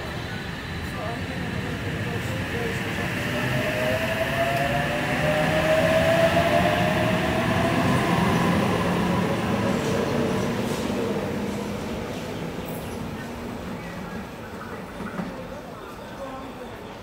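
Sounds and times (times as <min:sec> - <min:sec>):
wheels rumbling on rail: 0:00.0 - 0:16.6.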